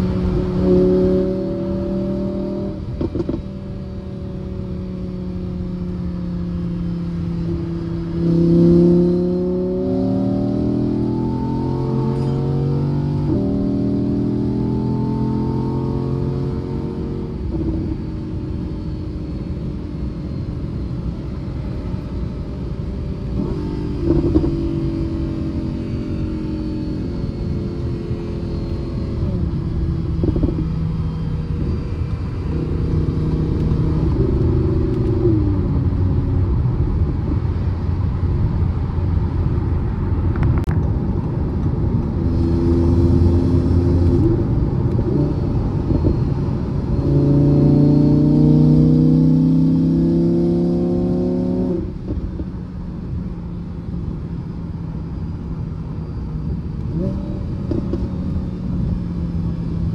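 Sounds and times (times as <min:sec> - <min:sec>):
car engine accelerating: 0:00.0 - 0:59.9
car engine cruising: 0:00.0 - 0:59.9
road noise: 0:00.0 - 0:59.9.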